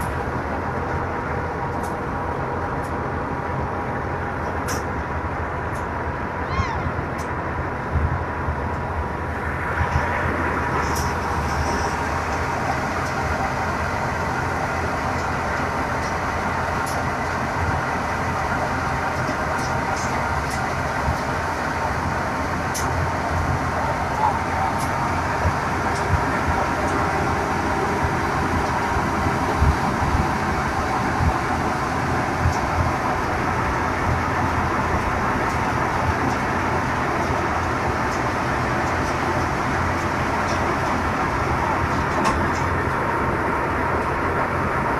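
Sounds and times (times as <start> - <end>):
threshing machine humming: 8.6 - 44.9.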